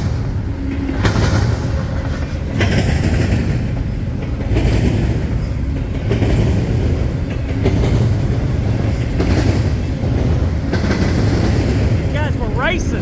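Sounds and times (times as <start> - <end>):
wheels clacking over rail joints: 0.0 - 12.9
train cars rumbling past: 0.0 - 13.0.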